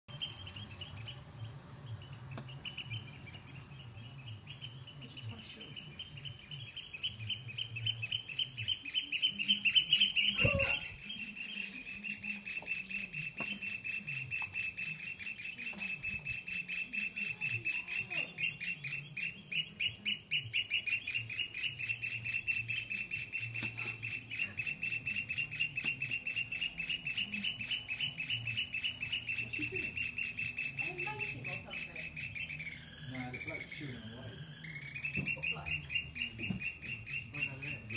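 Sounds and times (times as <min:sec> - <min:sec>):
bird shrill piping calls: 0:00.1 - 0:37.9.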